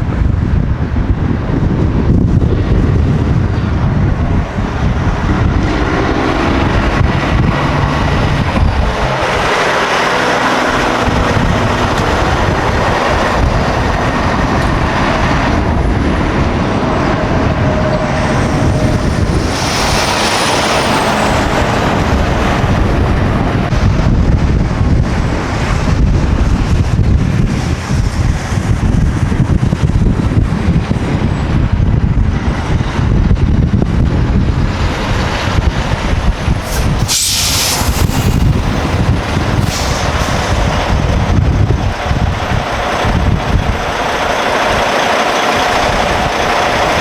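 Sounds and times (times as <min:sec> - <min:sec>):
trucks passing: 0:00.0 - 0:47.0
wind rumbling on microphone: 0:00.0 - 0:47.0.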